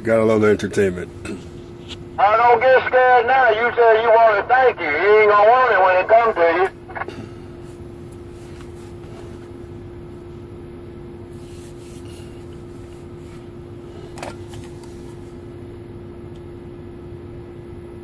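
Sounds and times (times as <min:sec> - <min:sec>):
truck cab rumble and hum: 0:00.0 - 0:18.0.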